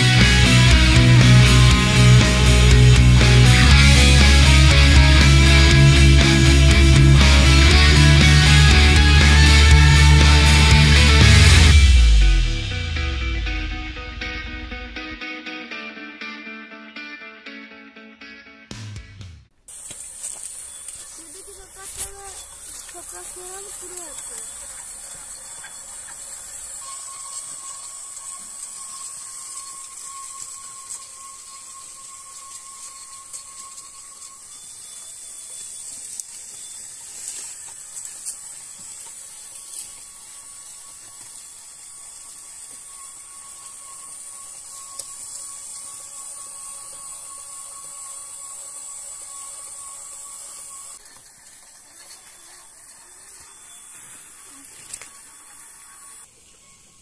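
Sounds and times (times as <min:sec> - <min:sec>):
electric motor whine: 0:00.0 - 0:15.3, 0:22.4 - 0:57.0.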